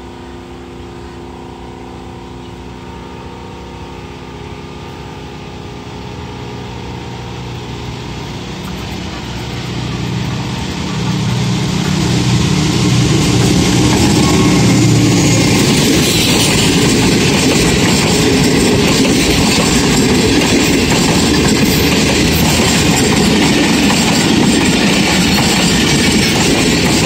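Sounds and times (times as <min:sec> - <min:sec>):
locomotive engine and train running: 0:00.0 - 0:27.0.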